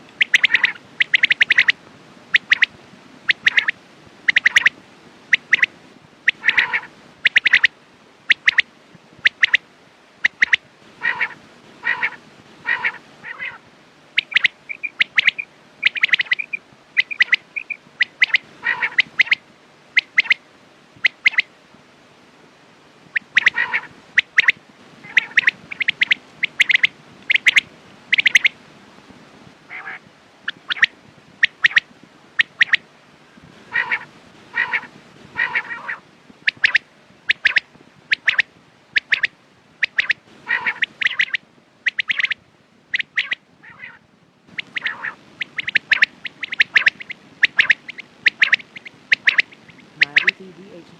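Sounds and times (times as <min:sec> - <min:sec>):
quail calling: 0:00.0 - 0:04.7, 0:05.3 - 0:07.7, 0:08.3 - 0:09.6, 0:10.2 - 0:20.4, 0:21.0 - 0:21.5, 0:23.1 - 0:28.6, 0:29.7 - 0:32.8, 0:33.6 - 0:50.9.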